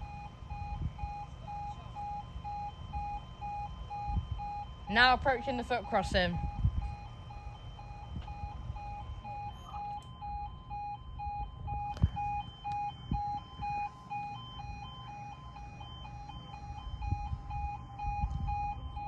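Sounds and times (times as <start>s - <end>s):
level crossing alarm tones: 0.0s - 19.0s.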